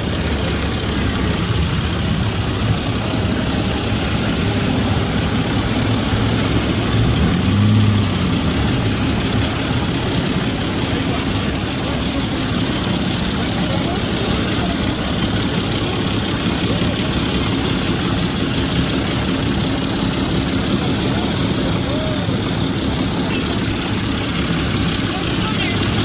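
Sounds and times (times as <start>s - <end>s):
tractor engines driving past: 0.0s - 26.0s.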